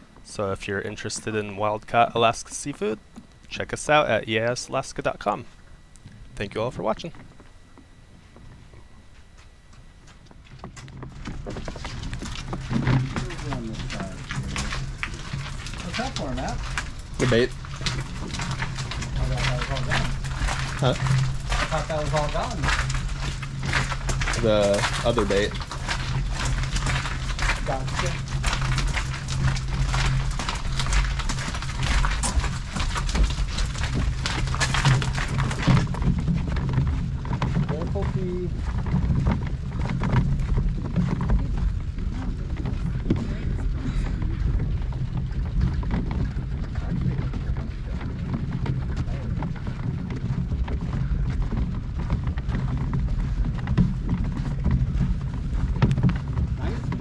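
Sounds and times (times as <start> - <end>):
cart wheels rumbling: 0.0 - 57.0
footsteps: 0.0 - 57.0
cart clattering: 10.5 - 57.0.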